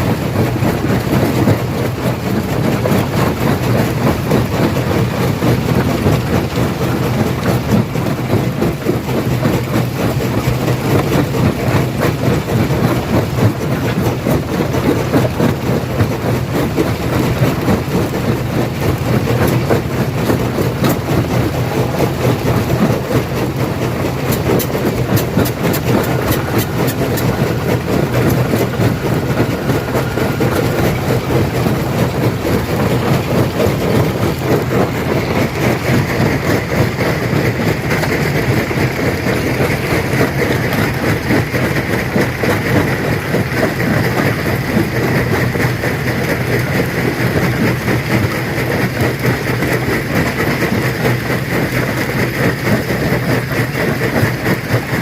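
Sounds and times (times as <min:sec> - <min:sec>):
stone crusher rumbling: 0:00.0 - 0:55.0.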